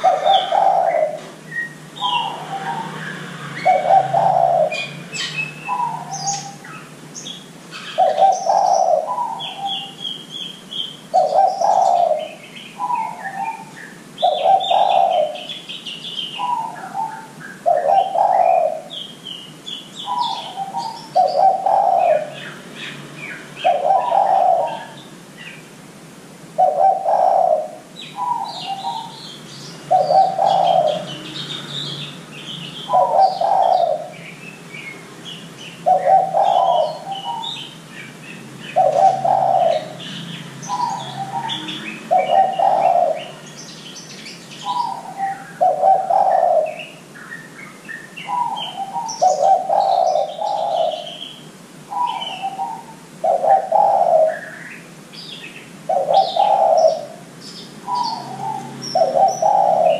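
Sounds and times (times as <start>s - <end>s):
dove cooing: 0.0s - 7.0s, 7.7s - 19.1s, 20.0s - 22.6s, 23.2s - 25.0s, 26.6s - 34.3s, 35.8s - 37.8s, 38.6s - 43.5s, 44.6s - 47.1s, 48.2s - 51.3s, 51.9s - 54.7s, 55.9s - 59.9s
small birds chirping: 0.0s - 59.9s.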